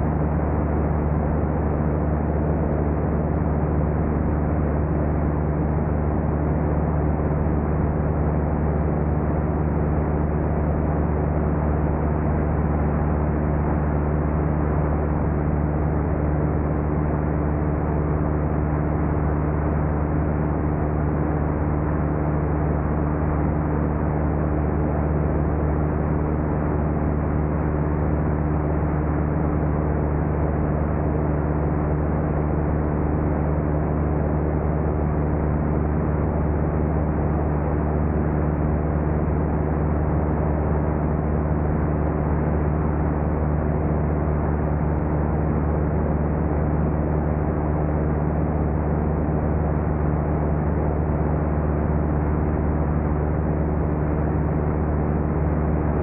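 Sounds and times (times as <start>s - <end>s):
propeller airplane engine droning: 0.0s - 56.0s.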